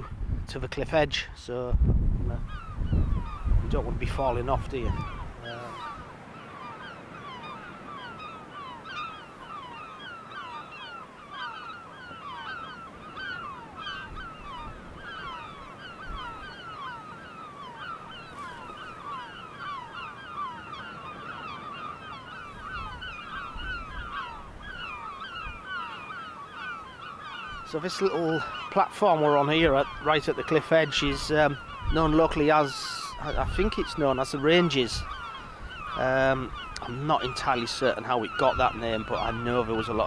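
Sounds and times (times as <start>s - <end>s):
flock of birds calling: 1.5s - 40.0s.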